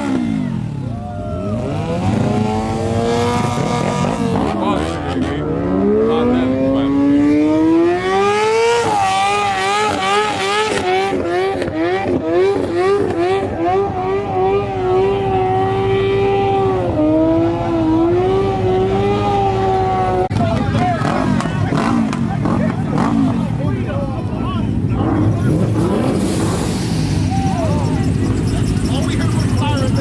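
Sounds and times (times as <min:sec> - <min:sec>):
vehicle engine revving high: 0:00.0 - 0:30.0.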